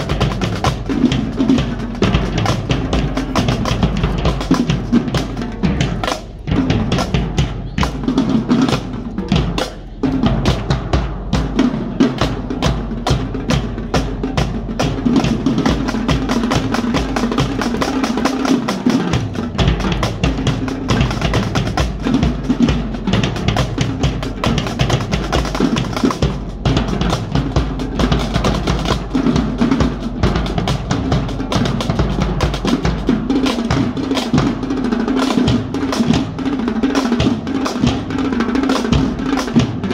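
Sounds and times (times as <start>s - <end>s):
bass drums: 0.0s - 39.9s
marching snare drums: 0.0s - 39.9s
tenor drums: 0.0s - 39.9s.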